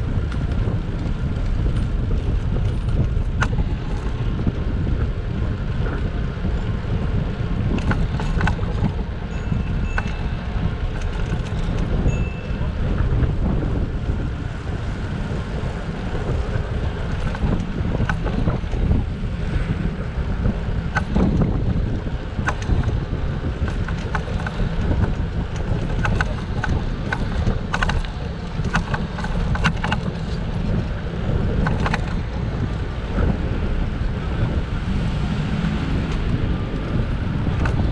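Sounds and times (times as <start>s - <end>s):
sharp clicks and rattles: 0.0s - 13.6s, 15.4s - 19.2s, 20.4s - 35.2s, 35.8s - 37.9s
wind buffeting microphone: 0.0s - 37.9s.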